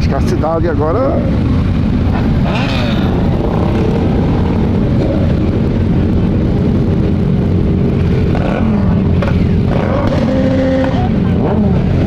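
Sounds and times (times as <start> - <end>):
group of motorcycles riding: 0.0 - 12.0.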